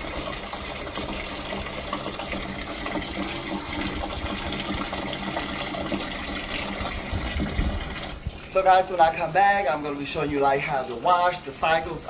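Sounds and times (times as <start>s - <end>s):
water pouring into plastic tub: 0.0s - 12.0s.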